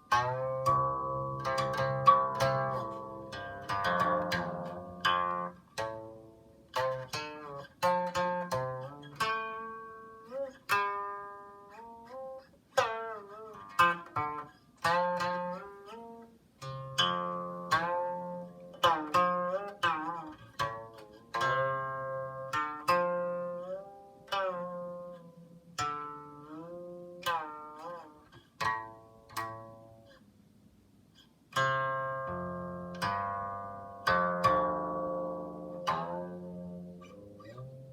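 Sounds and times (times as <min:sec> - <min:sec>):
plucked zither melody: 0:00.0 - 0:30.1, 0:31.6 - 0:37.9.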